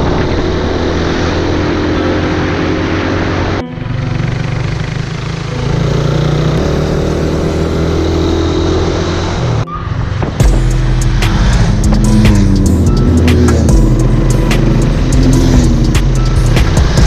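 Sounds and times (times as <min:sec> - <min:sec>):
motorcycle engine running: 0:00.0 - 0:09.7, 0:10.4 - 0:17.0.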